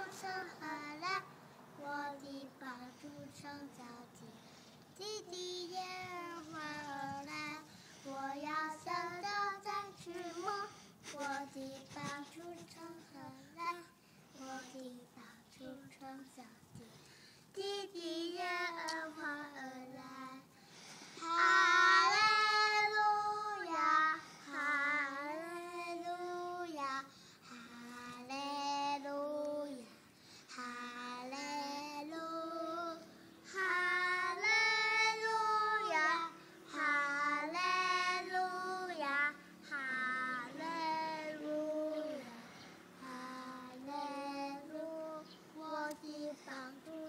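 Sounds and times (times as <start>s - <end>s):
young girls singing: 0.0s - 47.0s.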